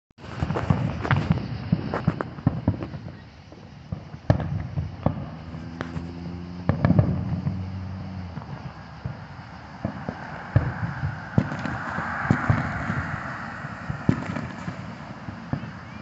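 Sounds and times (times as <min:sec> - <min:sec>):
distant fireworks bursting: 0:00.2 - 0:16.0.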